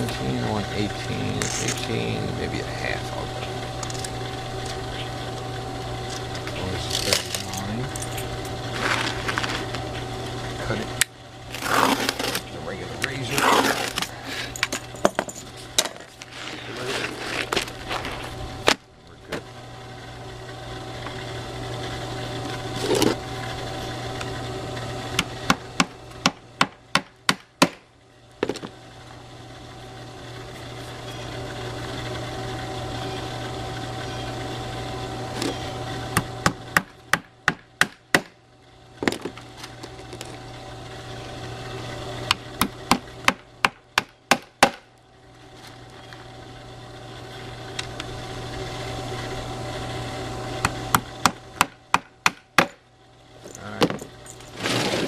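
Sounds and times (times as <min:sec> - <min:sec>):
woodworking motor hum: 0:00.0 - 0:55.0.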